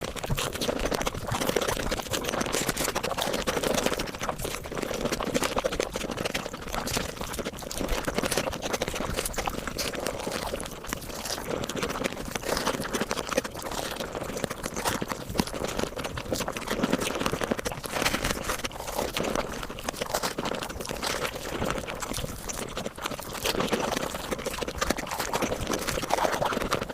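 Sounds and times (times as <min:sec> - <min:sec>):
rapid chewing and crunching: 0:00.0 - 0:26.9.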